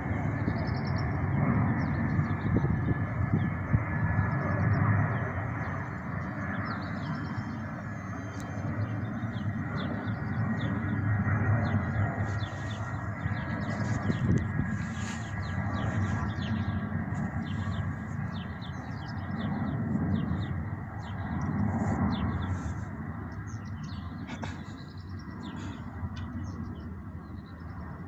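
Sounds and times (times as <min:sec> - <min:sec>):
small birds chirping: 0:00.2 - 0:28.0.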